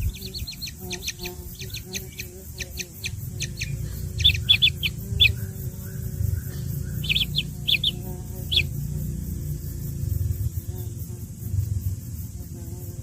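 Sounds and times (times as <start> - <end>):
low background rumble: 0.0 - 13.0
small birds chirping: 0.0 - 13.0.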